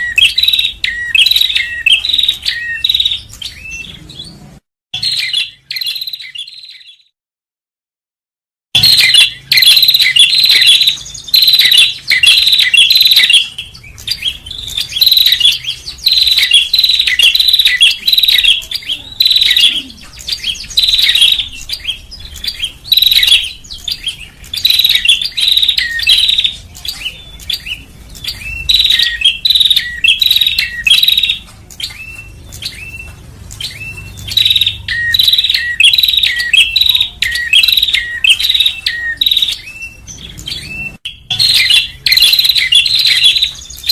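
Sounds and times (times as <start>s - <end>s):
bird high chirping: 0.0s - 7.1s, 8.8s - 43.9s.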